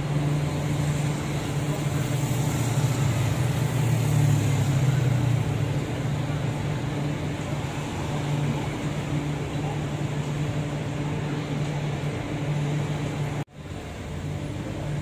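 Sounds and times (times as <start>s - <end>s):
passing cars and motorbikes: 0.0s - 15.0s.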